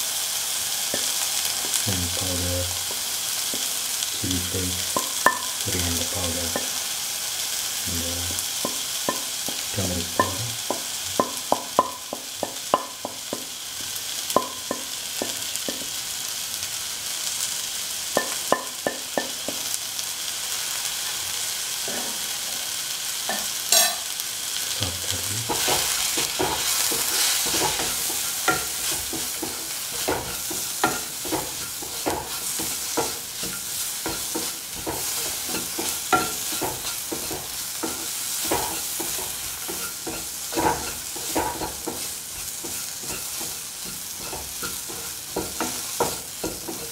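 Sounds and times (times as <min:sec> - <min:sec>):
food sizzling in hot oil: 0:00.0 - 0:46.9
spoon scraping and knocking pan: 0:00.9 - 0:06.9, 0:07.5 - 0:15.9, 0:18.2 - 0:19.7, 0:21.8 - 0:22.3, 0:23.3 - 0:24.2, 0:25.0 - 0:46.9.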